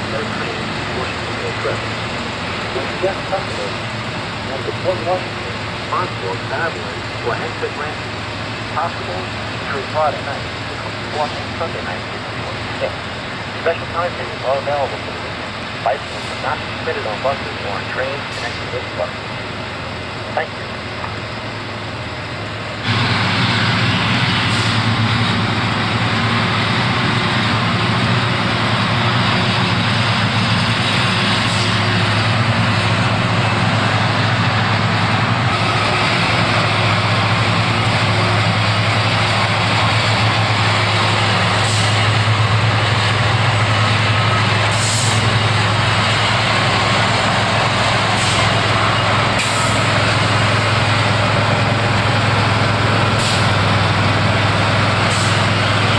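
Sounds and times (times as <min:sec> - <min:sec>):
diesel machinery running: 0:00.0 - 0:55.9.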